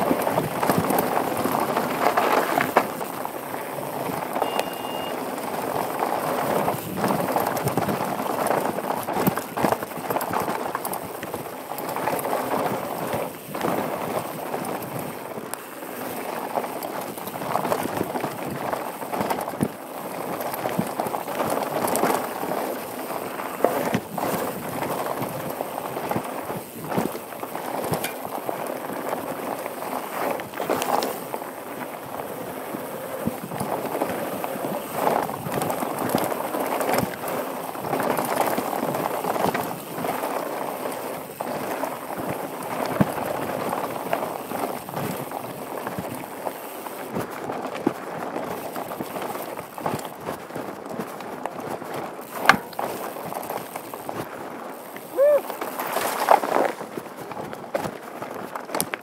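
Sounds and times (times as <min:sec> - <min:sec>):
bike rattling over stones: 0:00.0 - 0:59.0
bike tyres rushing on loose ground: 0:00.0 - 0:59.0.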